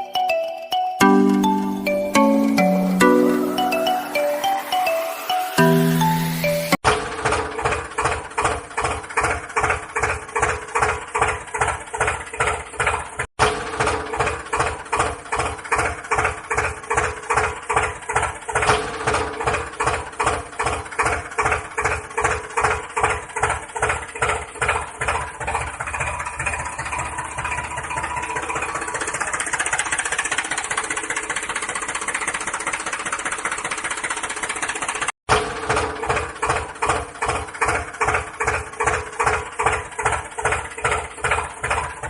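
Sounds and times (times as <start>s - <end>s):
tractor engine chugging: 5.7s - 42.0s.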